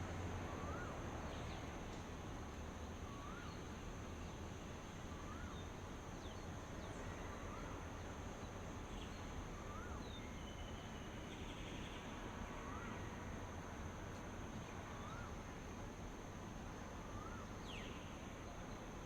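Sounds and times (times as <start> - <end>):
low rumbling hiss: 0.0 - 19.0.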